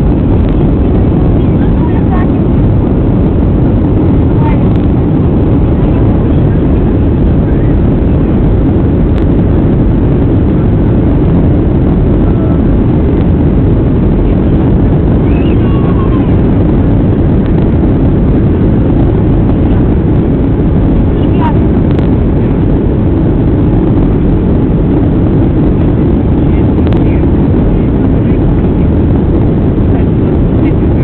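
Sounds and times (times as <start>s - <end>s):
airliner cabin engine rumble: 0.0s - 31.0s.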